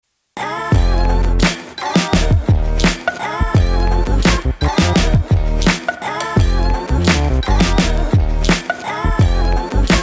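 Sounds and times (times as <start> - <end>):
hip-hop track with bass and kick drum: 0.7 - 10.0.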